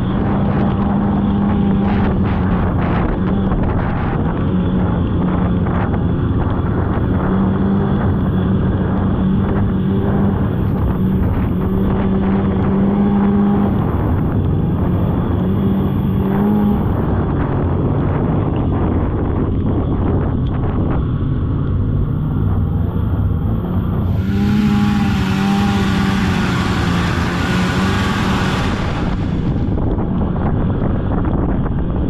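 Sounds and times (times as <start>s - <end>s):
snowmobile engine running: 0.0s - 17.7s, 22.4s - 31.1s
wind on microphone: 0.0s - 32.0s.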